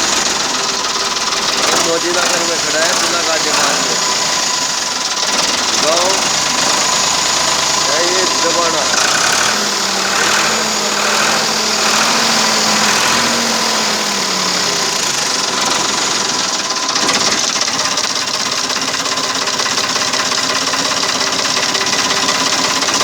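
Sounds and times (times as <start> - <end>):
diesel tractor engine idling: 0.0 - 23.0.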